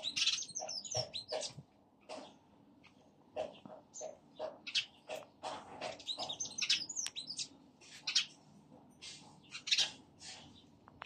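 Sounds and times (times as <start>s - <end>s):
birds twittering: 0.0s - 11.0s
small birds chirping: 0.0s - 11.0s.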